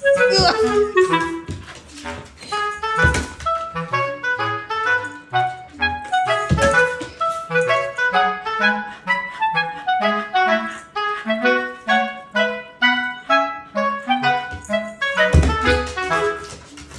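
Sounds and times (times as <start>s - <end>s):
light instrumental music: 0.0s - 16.9s.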